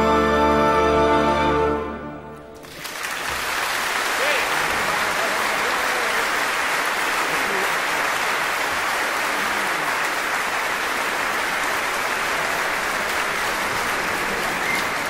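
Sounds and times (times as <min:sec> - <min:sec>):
audience applauding: 0:02.6 - 0:15.0.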